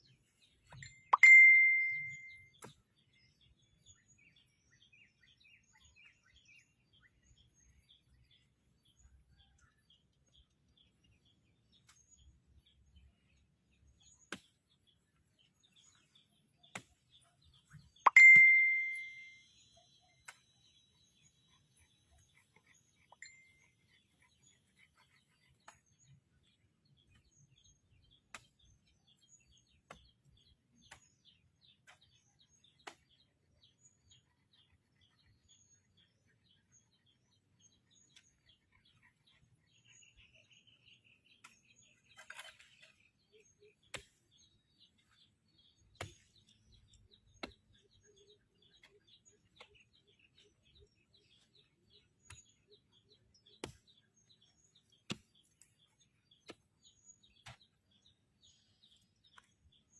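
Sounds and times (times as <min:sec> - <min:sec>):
faint bird chirping: 0:00.0 - 0:59.9.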